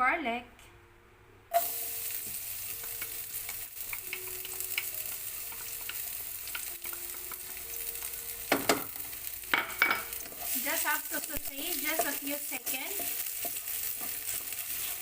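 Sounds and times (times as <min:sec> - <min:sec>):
garlic sizzling in oil: 0:01.5 - 0:15.0.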